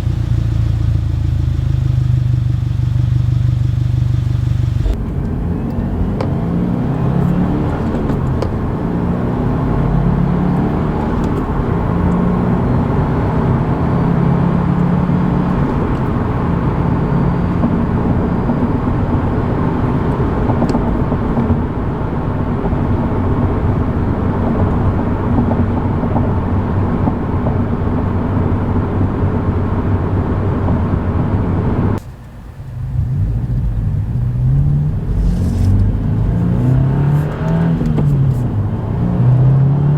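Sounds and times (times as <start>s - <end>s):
car engine and exhaust running: 0.0s - 39.9s.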